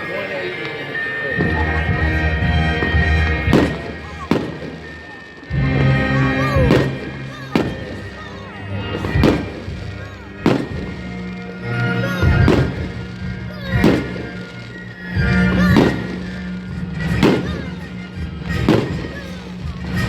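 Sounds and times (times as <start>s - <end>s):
firework whistles falling: 0.0s - 20.0s
fireworks bangs: 0.0s - 20.0s
live band music: 0.0s - 20.0s.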